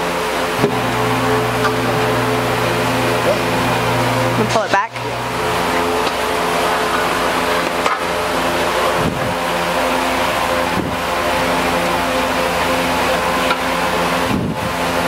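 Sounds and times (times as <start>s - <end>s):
mechanical drone: 0.0s - 15.0s.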